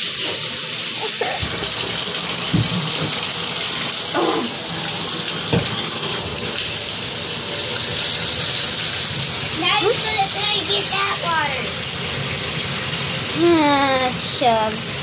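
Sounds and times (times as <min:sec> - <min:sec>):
water pouring into a bathtub: 0:00.0 - 0:15.0.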